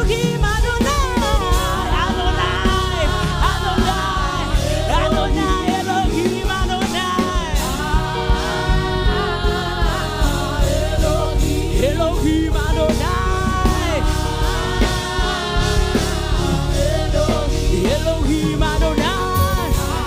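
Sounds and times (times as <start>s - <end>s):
gospel band playing: 0.0s - 20.0s.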